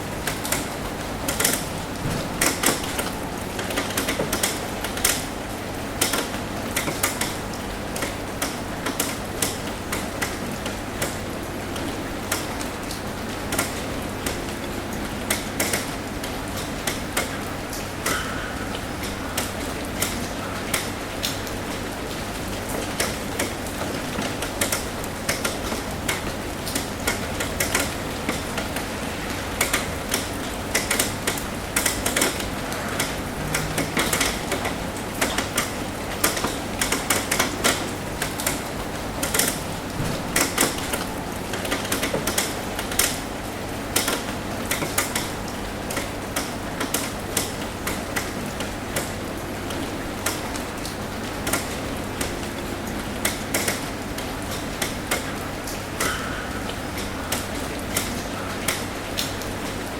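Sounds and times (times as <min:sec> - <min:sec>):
rain drips tapping on roof: 0:00.0 - 0:59.9
steady rain hiss: 0:00.0 - 0:59.9.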